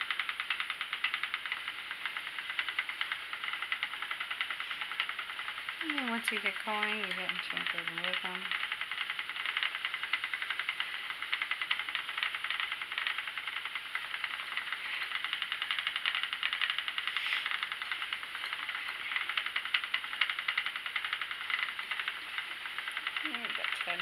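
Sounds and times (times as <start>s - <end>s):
spinning wheel ticking: 0.0s - 24.0s.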